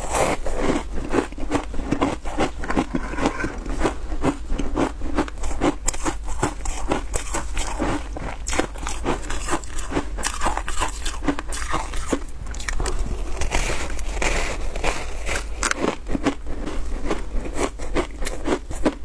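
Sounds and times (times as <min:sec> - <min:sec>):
crunching shaved ice: 0:00.0 - 0:19.0.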